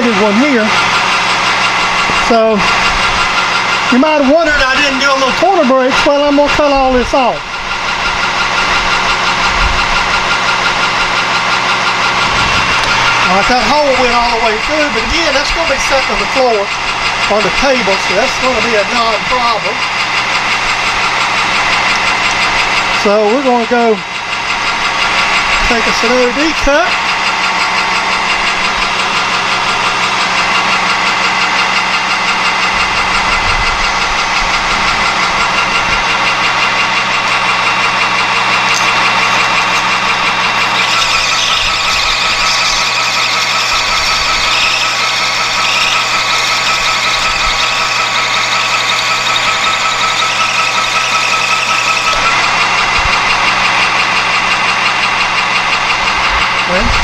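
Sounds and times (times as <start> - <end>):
metal lathe whining: 0.0 - 57.0.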